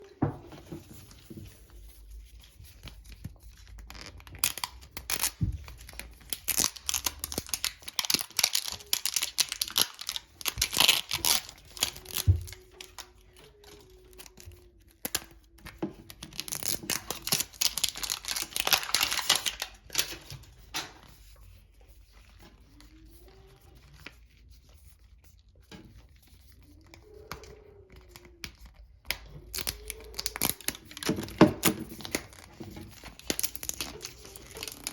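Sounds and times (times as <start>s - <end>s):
plastic wrapper crinkling: 0.0s - 34.9s.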